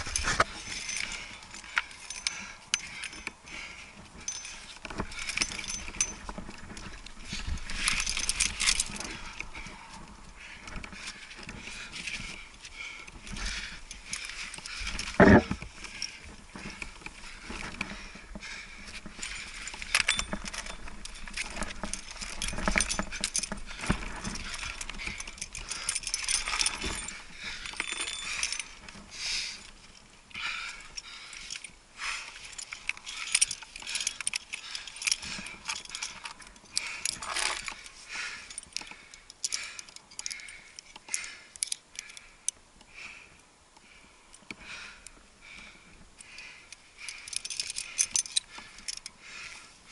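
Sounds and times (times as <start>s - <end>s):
climbing hardware clinking: 0.0s - 42.3s, 45.5s - 49.6s.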